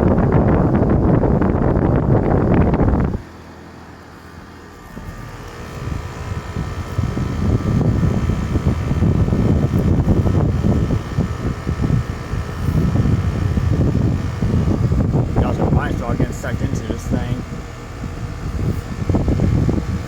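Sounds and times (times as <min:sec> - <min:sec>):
wind on microphone: 0:00.0 - 0:03.3, 0:04.9 - 0:20.0
heat pump humming: 0:00.0 - 0:20.0.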